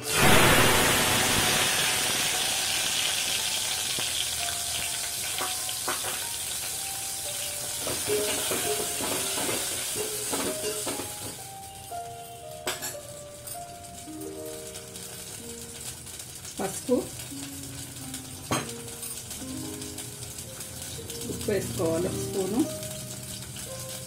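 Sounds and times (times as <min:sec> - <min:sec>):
tomatoes sizzling in hot oil: 0:00.0 - 0:24.0.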